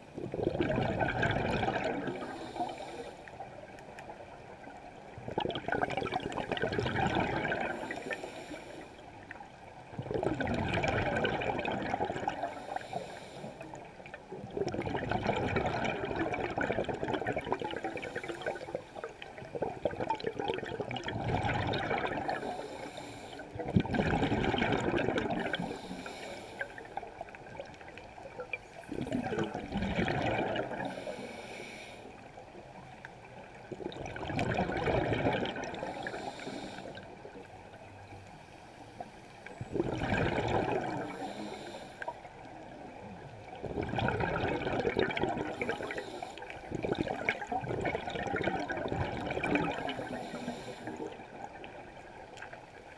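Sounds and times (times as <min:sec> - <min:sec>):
exhaled bubbles gurgling underwater: 0:00.0 - 0:52.9.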